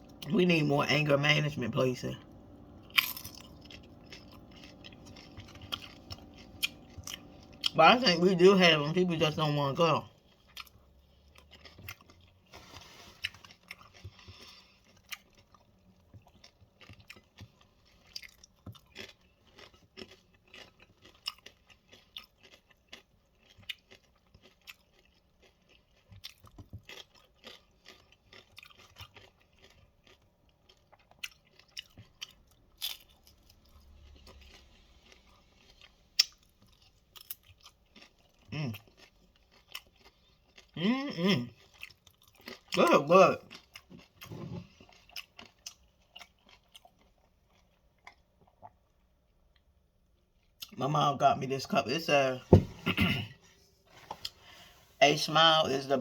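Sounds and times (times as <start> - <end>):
crunching and chewing chips: 0.0 - 52.4.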